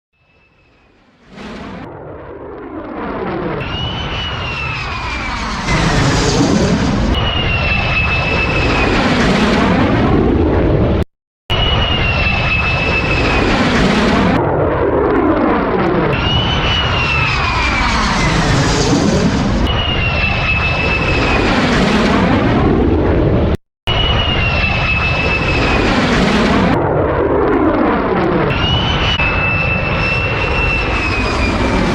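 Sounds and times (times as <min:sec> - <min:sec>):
fighter jet flying past: 0:00.3 - 0:31.9.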